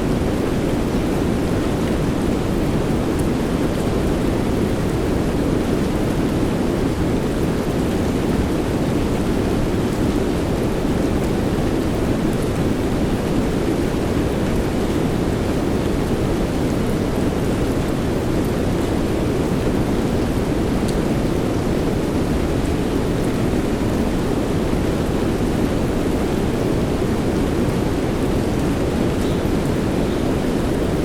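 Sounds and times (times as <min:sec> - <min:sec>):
steady soft rain: 0:00.0 - 0:31.0.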